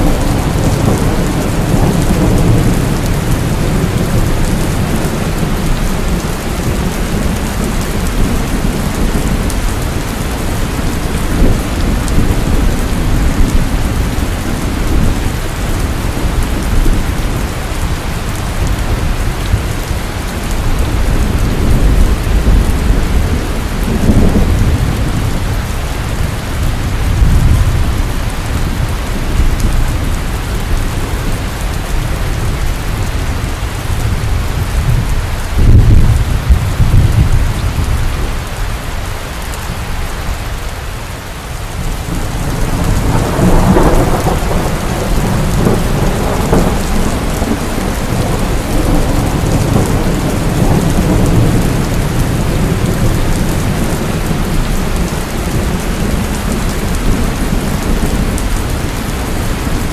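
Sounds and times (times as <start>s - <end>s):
rolling thunder: 0.0s - 38.6s, 41.8s - 59.9s
heavy rain: 0.0s - 59.9s.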